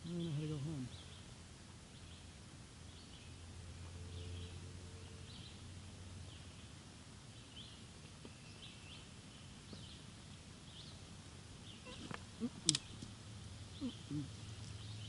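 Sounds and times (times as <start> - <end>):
birds chirping faintly: 0.0 - 15.0
low steady hum and hiss: 0.0 - 15.0.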